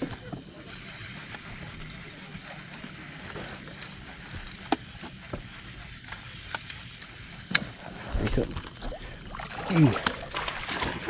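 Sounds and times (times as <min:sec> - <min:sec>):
sharp clicks and knocks: 0:00.0 - 0:08.9
outdoor ambience: 0:00.0 - 0:11.0.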